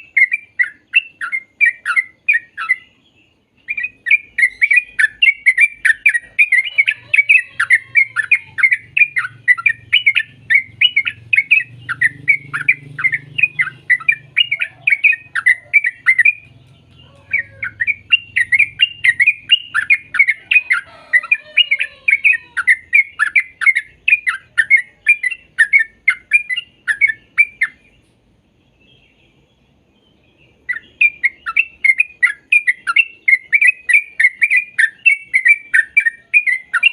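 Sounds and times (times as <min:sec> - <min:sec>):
bird singing chattering notes: 0:00.0 - 0:28.1, 0:30.0 - 0:36.9.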